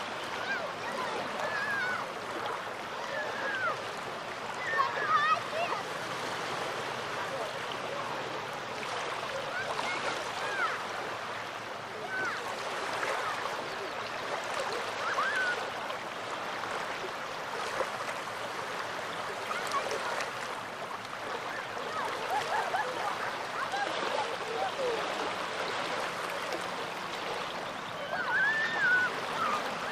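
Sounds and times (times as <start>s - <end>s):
small waves washing on shore: 0.0s - 29.9s.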